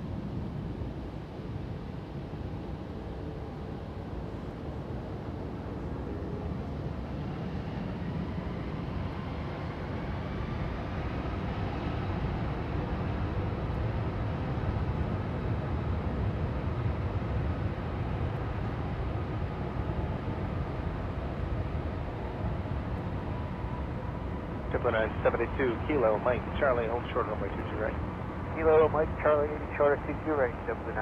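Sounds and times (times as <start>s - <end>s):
jet engines at takeoff power: 0.0s - 31.0s.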